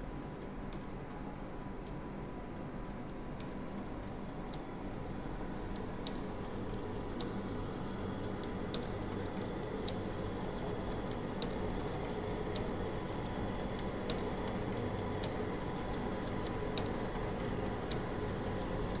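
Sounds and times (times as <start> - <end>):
printer ticking: 1.8 - 19.0
inkjet printer humming: 3.6 - 19.0.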